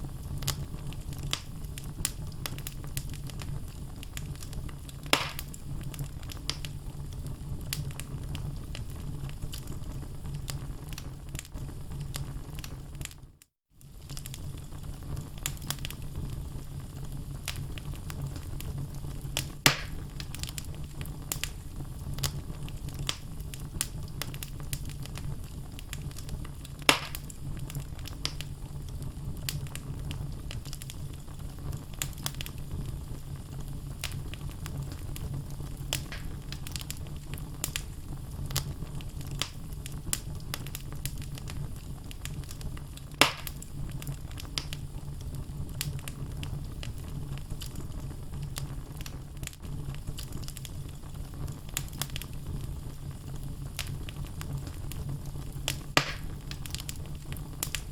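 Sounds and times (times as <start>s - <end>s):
fire pops and snaps: 0.0s - 57.9s
low rumble of flame: 0.0s - 57.9s
wood fire crackling: 0.0s - 57.9s.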